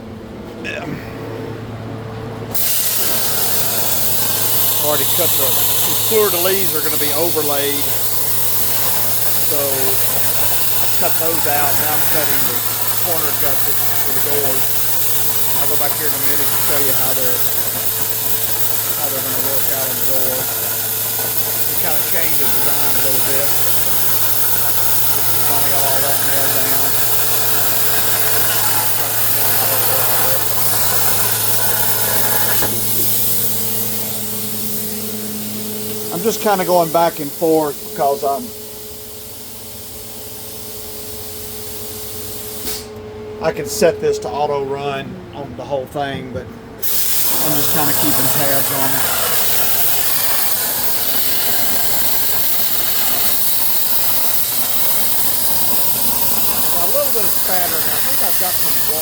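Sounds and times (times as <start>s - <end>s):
plasma unit hum: 0.0s - 59.0s
plasma torch cutting steel: 2.5s - 42.9s, 46.8s - 59.0s
hiss of air: 2.6s - 42.9s, 46.8s - 59.0s.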